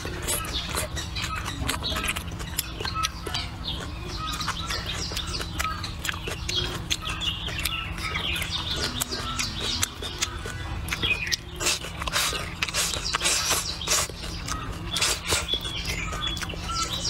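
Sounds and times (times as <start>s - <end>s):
chewing and lip-smacking: 0.0s - 17.0s.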